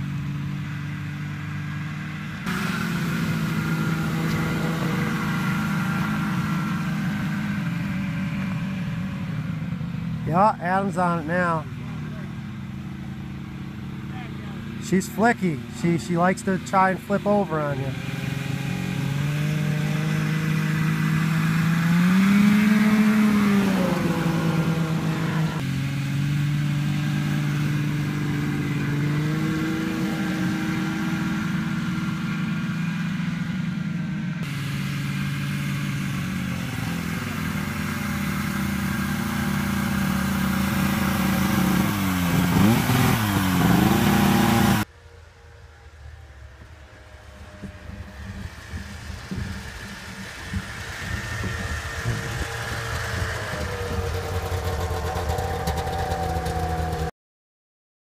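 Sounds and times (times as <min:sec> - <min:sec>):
snowmobile engine revving: 0:00.0 - 0:44.9, 0:47.2 - 0:57.1.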